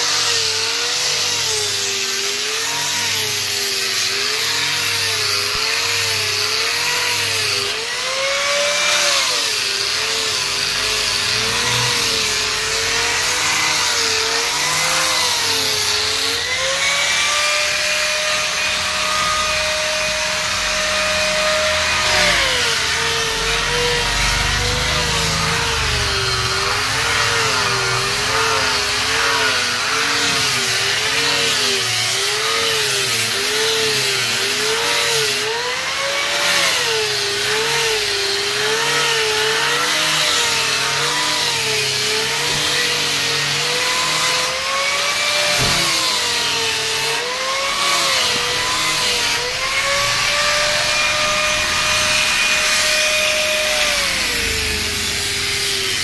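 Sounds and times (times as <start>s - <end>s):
angle grinder motor: 0.0s - 56.0s.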